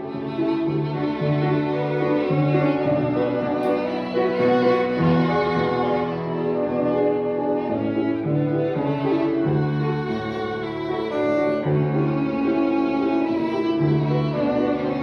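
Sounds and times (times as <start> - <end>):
bowed string slow melody: 0.0 - 15.0.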